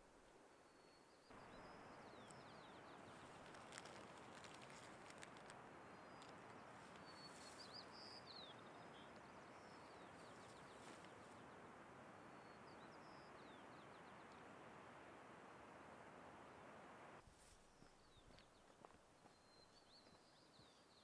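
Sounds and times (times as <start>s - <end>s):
faint outdoor hiss: 0.0s - 21.0s.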